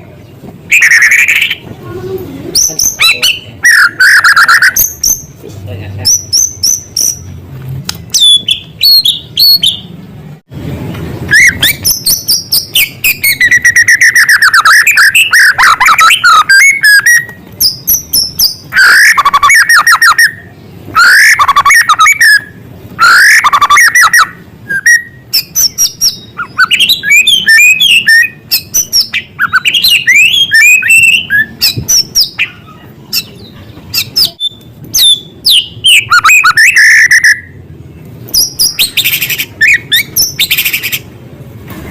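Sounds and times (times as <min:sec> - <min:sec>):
songbird singing loudly: 0:00.7 - 0:01.6, 0:02.5 - 0:05.4, 0:06.0 - 0:07.4, 0:08.1 - 0:10.0, 0:11.3 - 0:37.6, 0:38.3 - 0:41.1.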